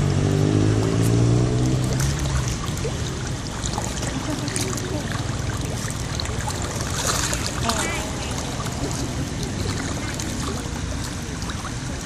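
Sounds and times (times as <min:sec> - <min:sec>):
fish splashing at water surface: 0:00.0 - 0:12.0.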